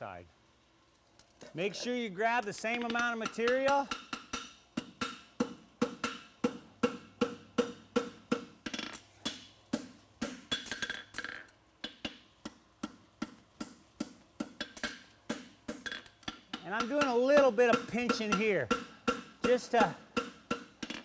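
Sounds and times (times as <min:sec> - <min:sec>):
hammer striking steel on anvil: 0:02.8 - 0:08.6, 0:09.2 - 0:21.0.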